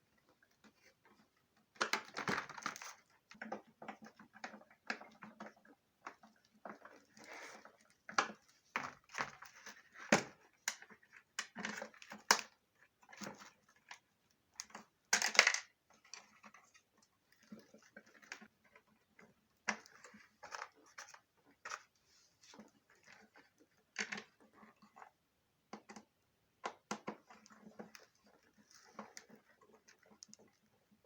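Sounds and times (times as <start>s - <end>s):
hard plastic parts clicking and knocking: 0.4s - 22.0s, 25.6s - 30.6s.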